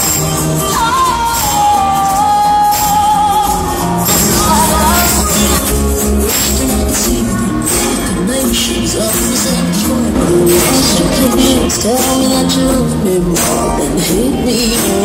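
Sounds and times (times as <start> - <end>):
band with steady beat: 0.0 - 15.0
person singing long notes: 0.6 - 15.0.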